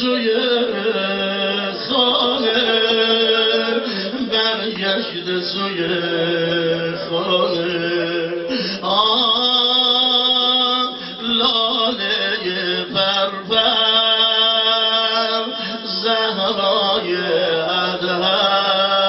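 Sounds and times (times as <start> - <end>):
man chanting a lament: 0.0 - 19.0.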